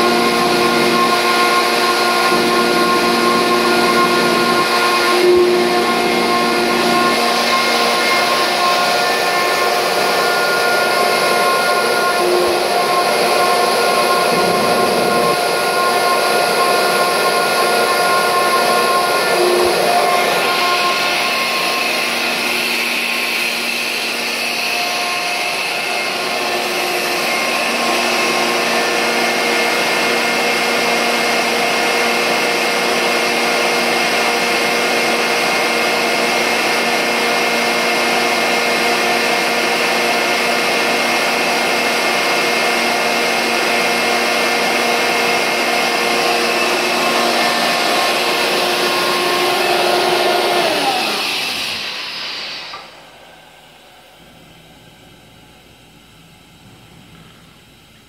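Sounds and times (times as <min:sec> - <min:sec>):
air compressor whine: 0:00.0 - 0:58.0.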